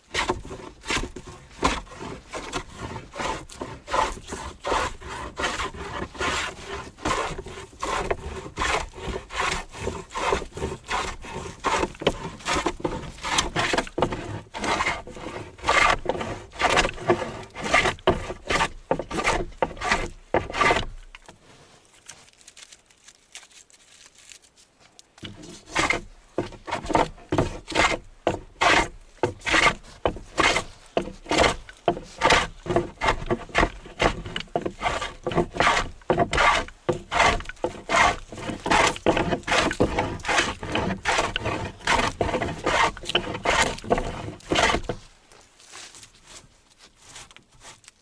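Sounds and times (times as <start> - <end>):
hand plane shaving wood: 0.0 - 21.1, 25.2 - 45.1.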